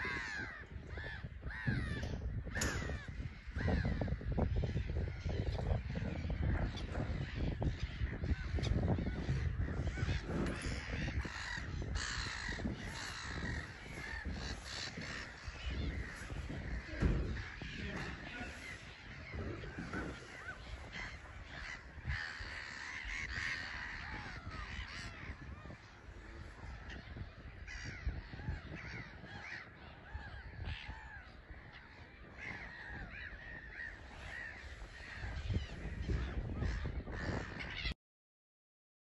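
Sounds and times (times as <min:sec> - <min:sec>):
gulls calling: 0:00.0 - 0:38.0.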